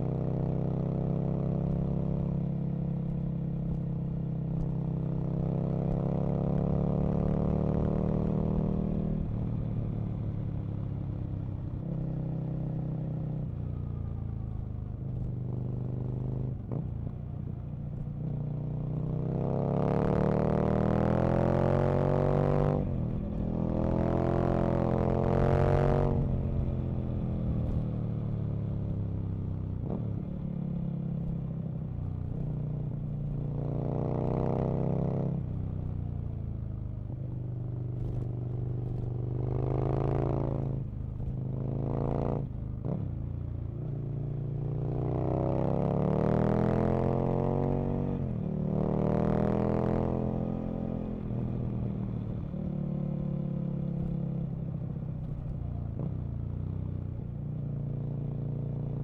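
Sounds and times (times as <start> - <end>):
motorcycle engine accelerating: 5.4 - 59.0.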